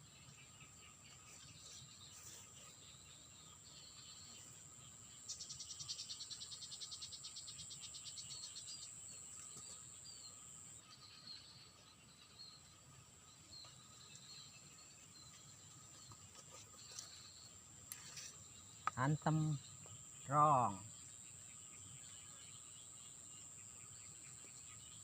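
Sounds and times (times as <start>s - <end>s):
high insect drone: 0.0s - 25.0s
rapid pulsed insect trill: 0.0s - 25.0s.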